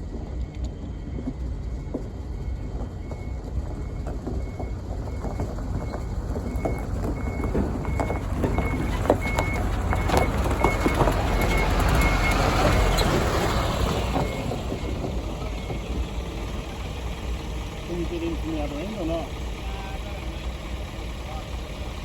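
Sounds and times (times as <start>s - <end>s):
train wagons rolling past: 0.0s - 22.0s
wheels clicking over rail joints: 0.0s - 22.0s.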